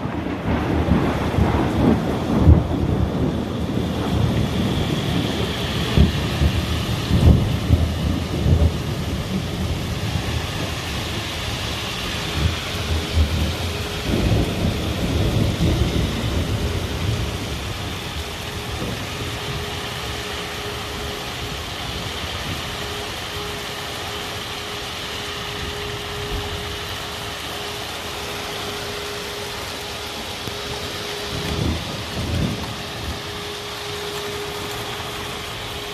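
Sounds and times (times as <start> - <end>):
heavy rain pouring: 0.0 - 35.9
thunder rumbling: 0.0 - 35.9.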